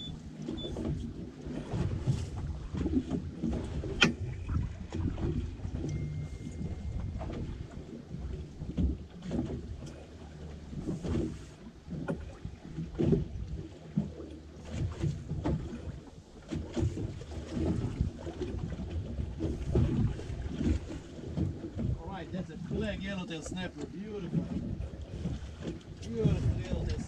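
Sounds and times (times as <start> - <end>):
water sloshing against boat hull: 0.0 - 27.0
wind buffeting microphone: 0.6 - 10.0, 14.7 - 27.0.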